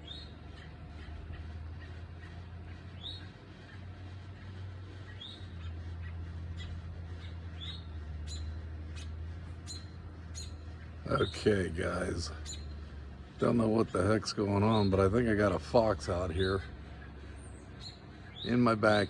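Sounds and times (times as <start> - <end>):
bird chirping: 0.0 - 19.0
low steady hum: 0.0 - 19.0.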